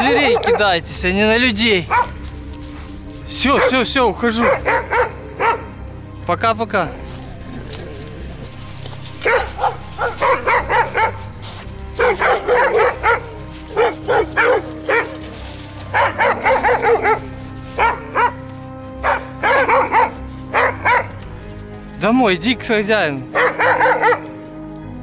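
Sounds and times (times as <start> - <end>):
dogs barking: 0.0 - 6.1, 7.1 - 22.0, 23.2 - 24.7
soft background music: 0.0 - 25.0.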